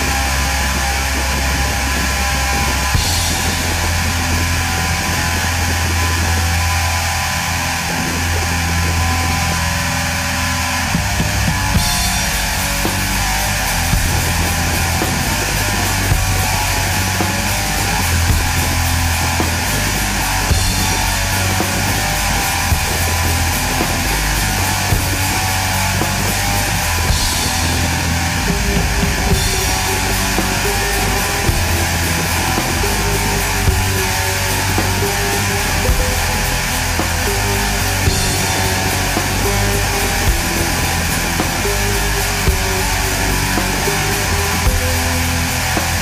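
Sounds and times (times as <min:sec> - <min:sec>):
heavy rock music: 0:00.0 - 0:46.0.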